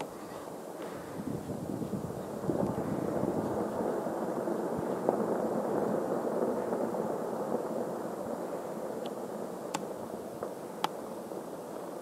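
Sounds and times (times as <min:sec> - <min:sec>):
avalanche rushing rumble: 0:00.5 - 0:12.0.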